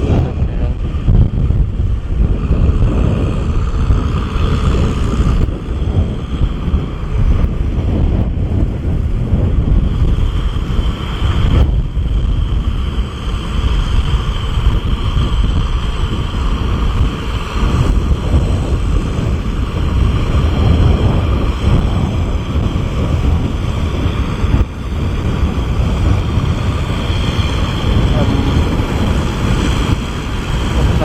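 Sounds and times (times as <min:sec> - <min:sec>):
tractor diesel engine rumbling: 0:00.0 - 0:31.0.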